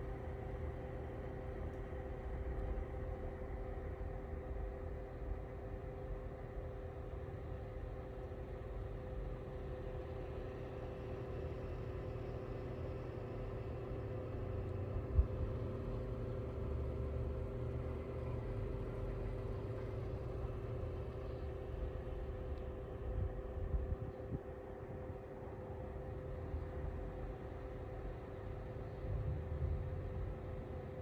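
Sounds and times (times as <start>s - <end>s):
heater fan humming: 0.0s - 31.0s.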